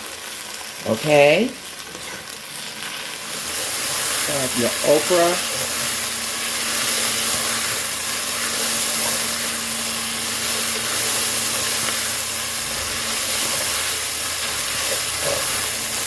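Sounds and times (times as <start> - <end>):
okra sizzling in hot oil: 0.0 - 16.0.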